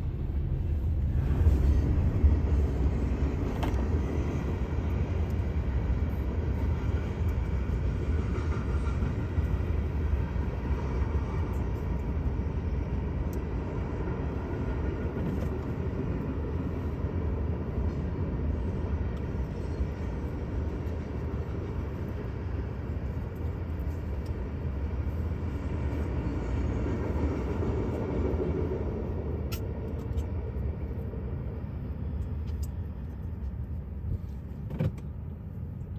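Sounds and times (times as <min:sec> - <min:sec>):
train wheels rumbling on rail: 0:00.0 - 0:35.8.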